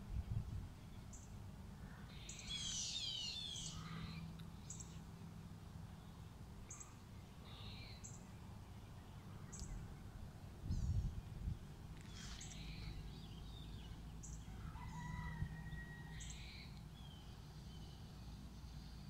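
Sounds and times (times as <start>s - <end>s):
small birds calling: 0.8s - 5.1s, 6.0s - 11.2s, 12.0s - 19.0s.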